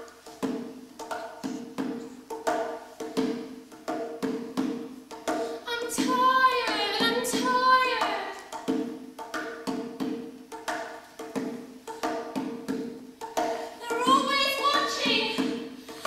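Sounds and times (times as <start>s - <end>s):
percussion dance music: 0.0s - 16.0s.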